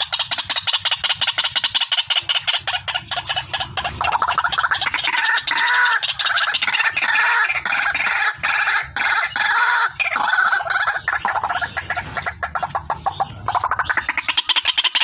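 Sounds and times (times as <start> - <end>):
bird calling harsh repeated notes: 0.0 - 15.0.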